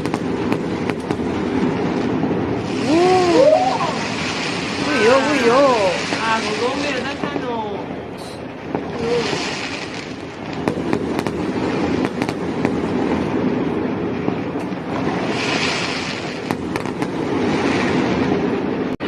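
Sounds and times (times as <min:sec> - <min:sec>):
fireworks hissing: 0:00.0 - 0:18.8
fireworks crackling and popping: 0:00.0 - 0:19.0.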